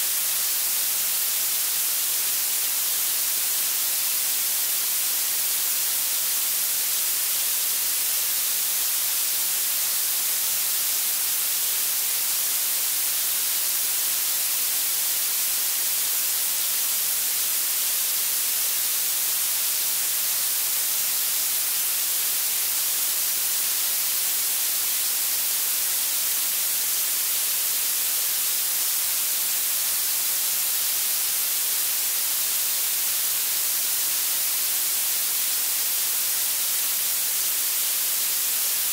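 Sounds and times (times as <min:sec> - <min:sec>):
bright steady hiss: 0:00.0 - 0:38.9.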